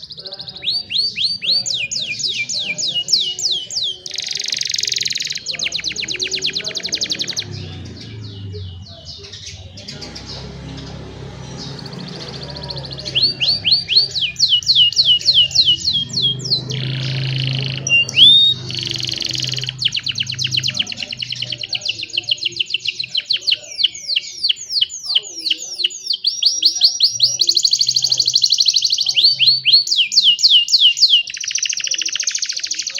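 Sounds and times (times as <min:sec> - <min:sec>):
canaries singing: 0:00.0 - 0:32.9.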